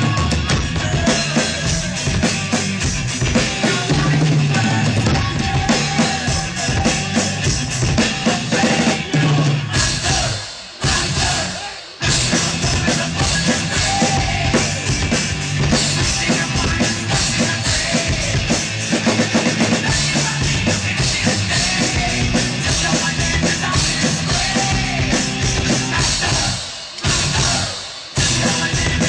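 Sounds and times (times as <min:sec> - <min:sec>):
drum kit with cymbals: 0:00.0 - 0:29.0
rock music: 0:00.0 - 0:29.0.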